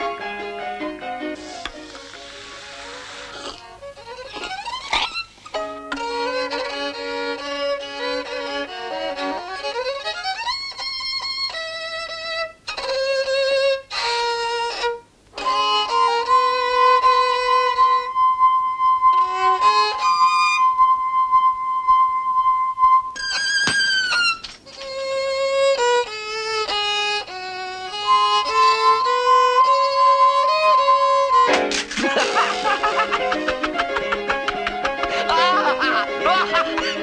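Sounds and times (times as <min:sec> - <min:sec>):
solo violin playing: 0:01.4 - 0:37.0.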